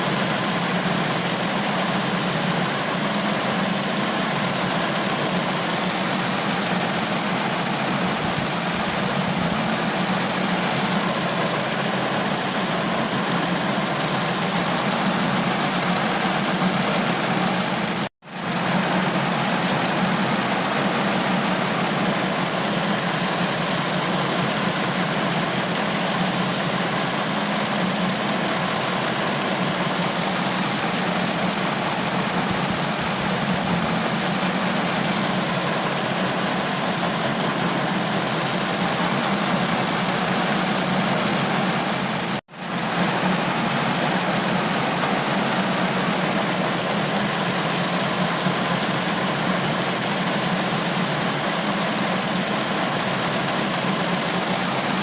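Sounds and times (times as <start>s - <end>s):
rain on a car roof: 0.1s - 55.0s.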